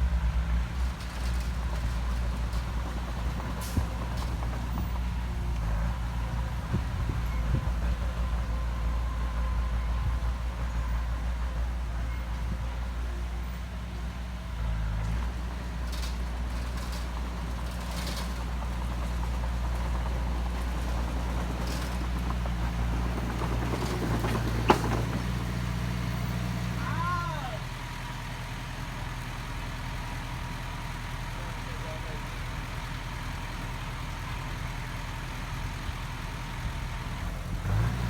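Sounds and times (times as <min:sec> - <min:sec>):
heavy machinery diesel engine: 0:00.0 - 0:38.0.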